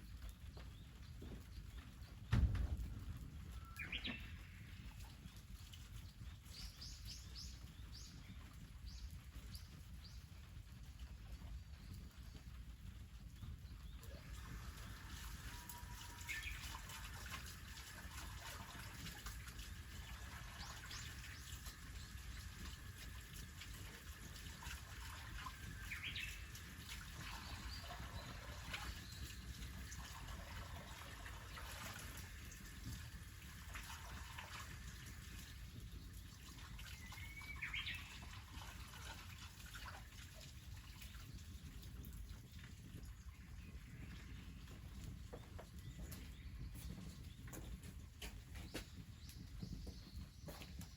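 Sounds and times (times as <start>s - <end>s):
faint trickling water: 0.0s - 50.9s.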